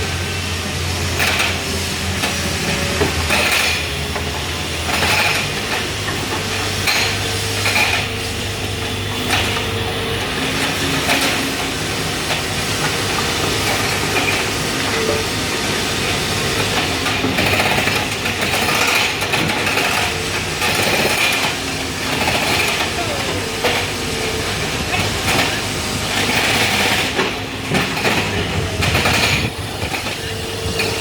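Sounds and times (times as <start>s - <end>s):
machine engine running: 0.0s - 31.0s.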